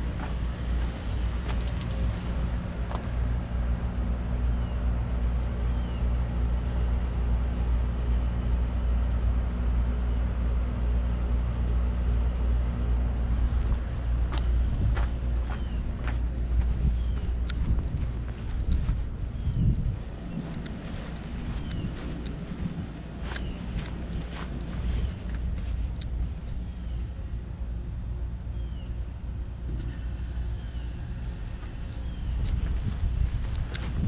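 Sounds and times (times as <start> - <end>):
heat pump low hum: 0.0 - 34.0.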